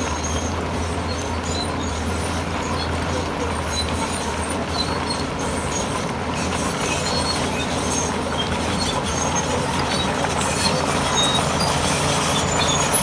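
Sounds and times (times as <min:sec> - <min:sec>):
diesel machinery running: 0:00.0 - 0:13.0.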